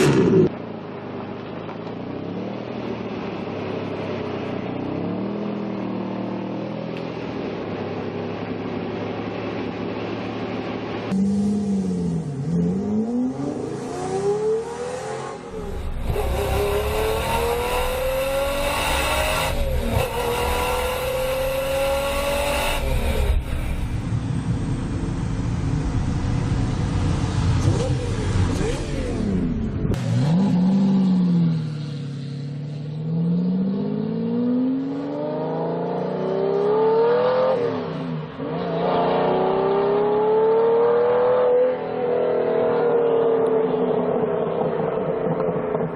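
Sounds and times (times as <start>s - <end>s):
car engine accelerating hard: 7.7s - 45.9s.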